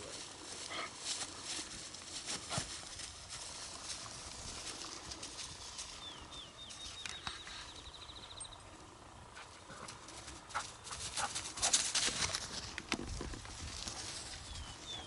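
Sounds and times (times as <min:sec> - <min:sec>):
rustling through dry grass: 0:00.0 - 0:07.8, 0:09.3 - 0:15.0.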